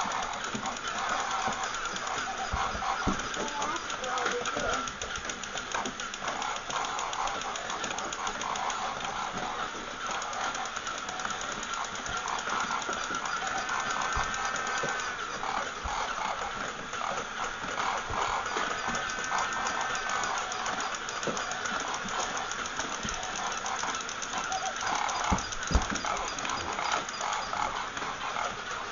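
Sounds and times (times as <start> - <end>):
toy motor whirring and clicking: 0.0 - 28.9.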